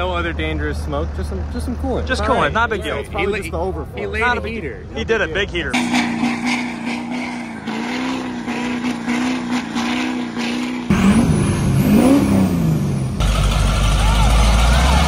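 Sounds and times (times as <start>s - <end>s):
deep engine rumble: 0.0s - 15.0s
diesel truck engine revving: 0.0s - 15.0s.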